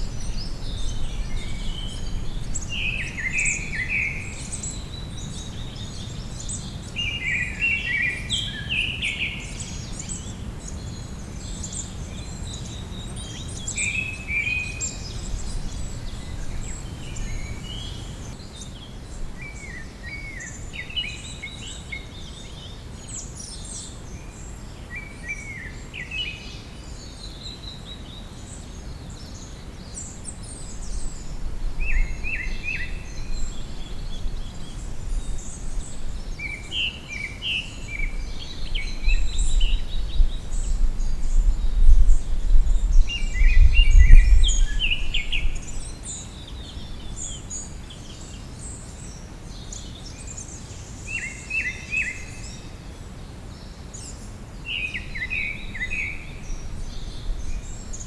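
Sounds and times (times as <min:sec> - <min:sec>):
birds singing and chirping: 0:00.0 - 0:52.8, 0:53.5 - 0:58.0.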